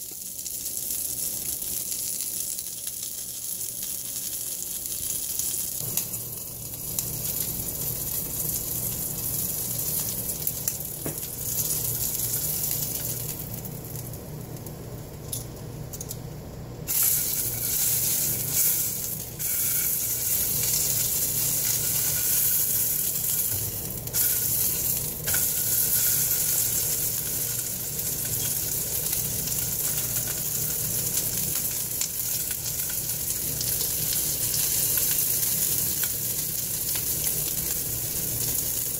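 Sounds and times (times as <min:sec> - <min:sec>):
bacon sizzling in a frying pan: 0:00.0 - 0:15.9, 0:16.8 - 0:38.9
steady low hum: 0:00.5 - 0:38.9.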